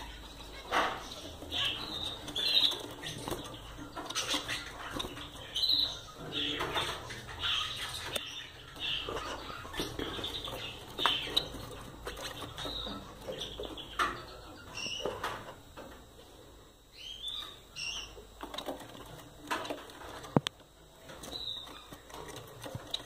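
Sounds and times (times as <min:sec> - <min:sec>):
finches chirping: 0:00.0 - 0:16.0, 0:16.8 - 0:23.0
birds rustling and knocking: 0:00.0 - 0:16.1, 0:18.0 - 0:23.0.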